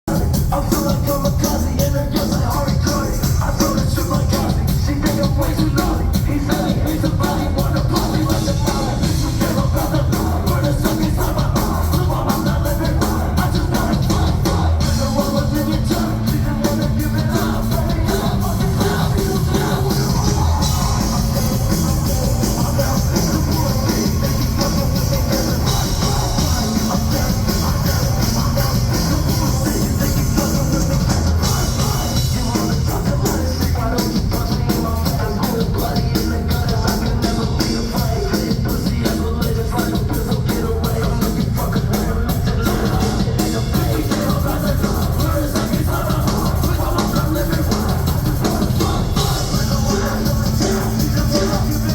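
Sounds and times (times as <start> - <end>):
crowd noise: 0.0 - 51.9
rapped or shouted vocals: 0.0 - 51.9
heavy bass-laden beat: 0.1 - 51.9.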